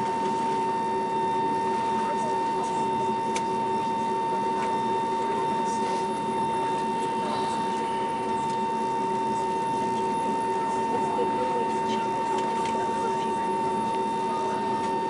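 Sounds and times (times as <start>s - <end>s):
low cabin hum: 0.0s - 15.0s.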